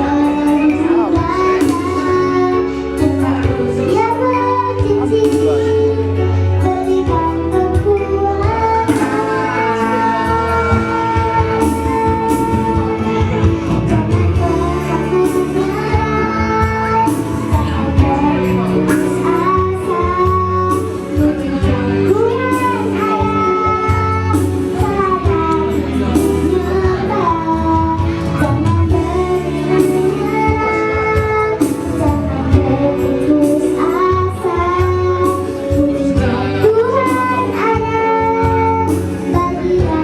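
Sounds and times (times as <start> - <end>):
instrumental backing with bass line: 0.0 - 40.0
woman singing: 0.0 - 40.0.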